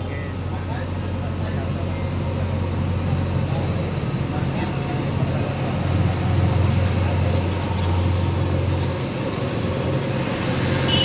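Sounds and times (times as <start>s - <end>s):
heavy machinery engine hum: 0.0s - 11.0s.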